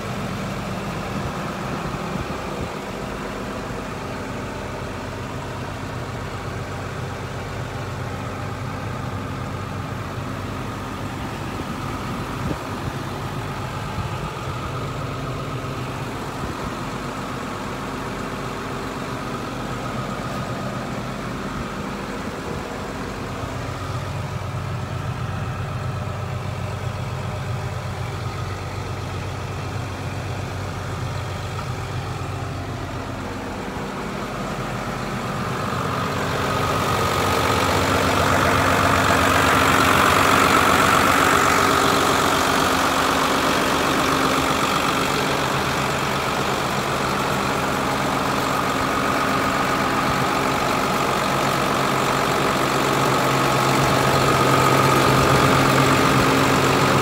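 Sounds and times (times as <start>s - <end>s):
diesel tractor engine idling: 0.0s - 57.0s.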